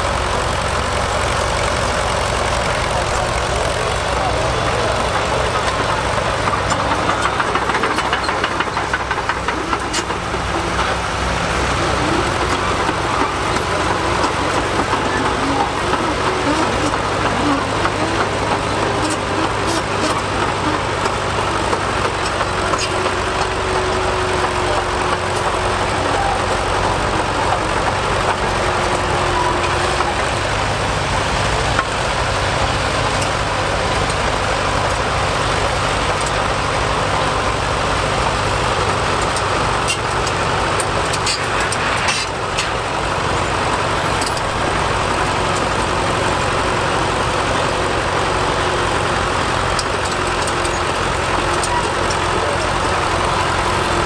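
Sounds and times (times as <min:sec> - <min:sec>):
crawler bulldozer engine running: 0:00.0 - 0:54.0.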